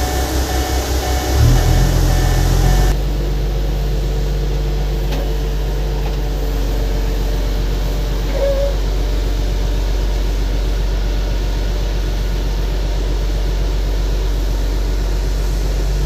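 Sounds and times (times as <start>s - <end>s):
idling ground machinery drone: 0.0s - 16.0s.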